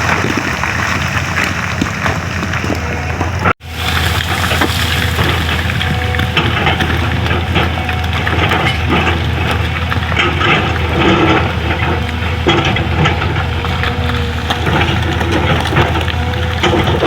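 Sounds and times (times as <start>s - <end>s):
bucket crunching road surface: 0.0s - 17.0s
excavator diesel engine running: 0.0s - 17.0s.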